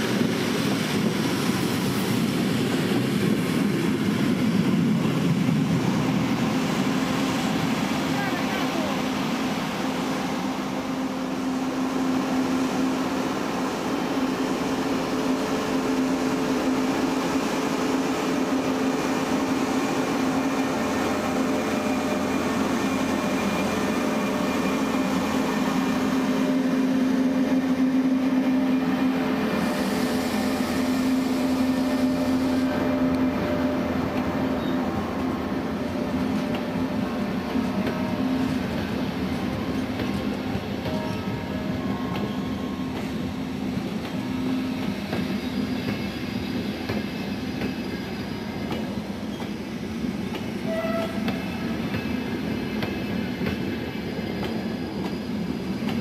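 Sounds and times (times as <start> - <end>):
electric train running past: 0.0 - 56.0.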